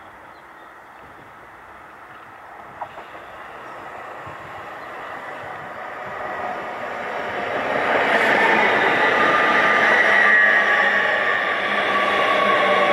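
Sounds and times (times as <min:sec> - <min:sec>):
train rumble and rail noise: 0:00.0 - 0:12.9.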